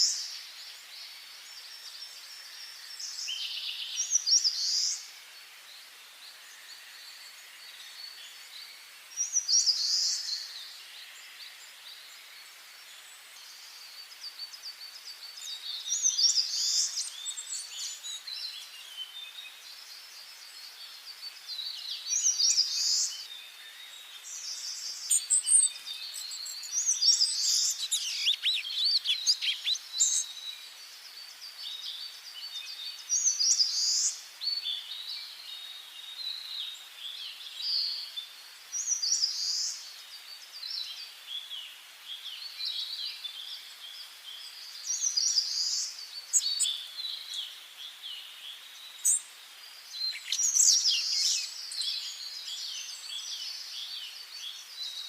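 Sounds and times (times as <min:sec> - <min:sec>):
faint steady hiss: 0:00.0 - 0:55.0
songbirds singing and calling: 0:00.0 - 0:55.0.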